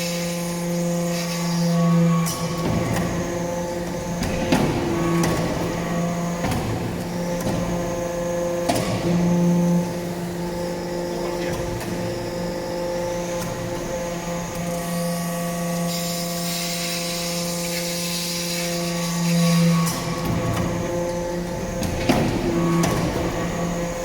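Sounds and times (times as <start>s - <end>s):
hydraulic press humming: 0.0s - 24.0s.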